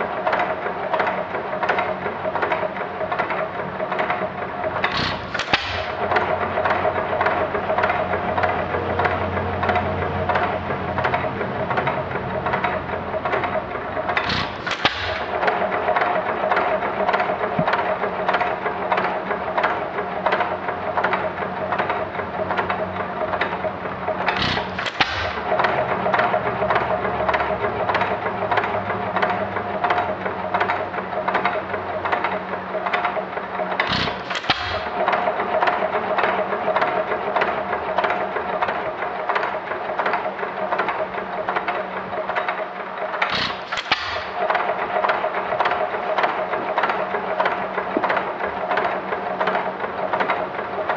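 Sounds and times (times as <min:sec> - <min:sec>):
engine firing stroke: 0:00.0 - 0:50.9
hit-and-miss engine clattering: 0:00.0 - 0:50.9.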